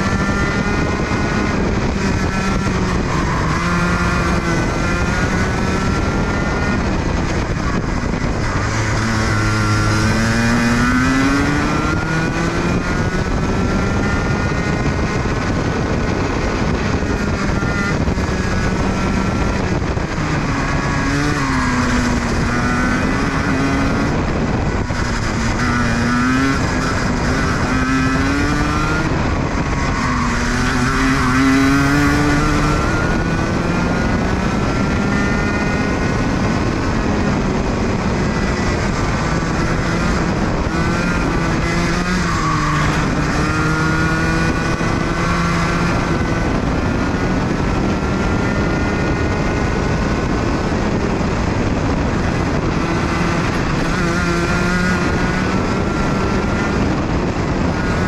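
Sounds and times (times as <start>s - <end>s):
kart engine at high revs: 0.0s - 58.0s
wind and road noise: 0.0s - 58.0s.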